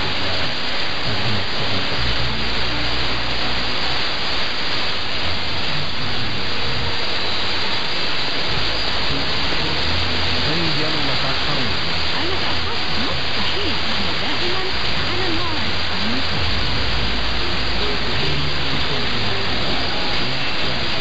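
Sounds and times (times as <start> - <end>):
faint radio programme: 0.0 - 21.0
radio static hiss: 0.0 - 21.0.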